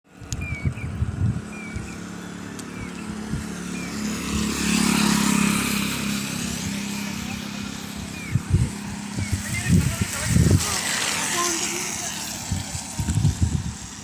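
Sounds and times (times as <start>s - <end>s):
vehicle engine passing: 0.6s - 14.0s.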